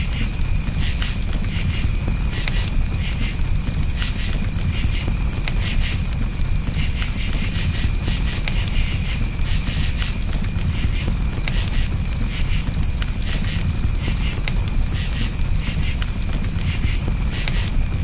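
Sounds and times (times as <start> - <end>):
campfire crackling and popping: 0.0 - 18.0
crickets chirping: 0.0 - 18.0.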